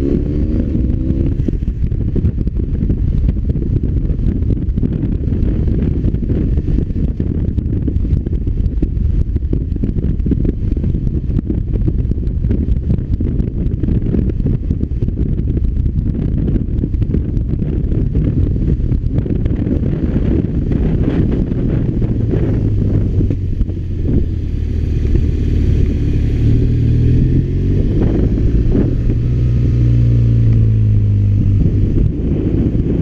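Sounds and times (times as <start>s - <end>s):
motorcycle engine rumble: 0.0s - 33.0s
wind rushing over microphone: 0.0s - 33.0s.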